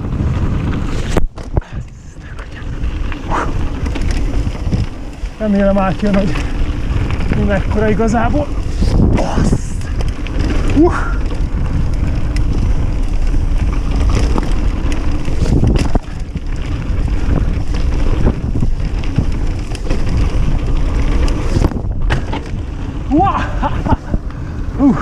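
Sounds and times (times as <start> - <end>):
bike rattling and knocking: 0.0 - 25.0
bike tyres rumbling on dirt trail: 0.0 - 25.0
wind buffeting microphone: 0.0 - 25.0.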